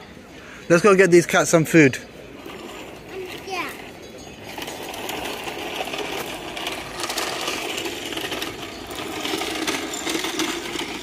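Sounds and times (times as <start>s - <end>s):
vacuum cleaner rolling over paving: 0.7s - 11.0s.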